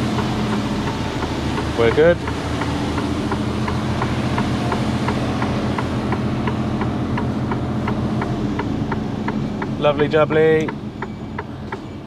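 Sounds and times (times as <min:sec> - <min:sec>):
diesel engine running: 0:00.0 - 0:12.0
hazard light relay ticking: 0:00.0 - 0:12.0.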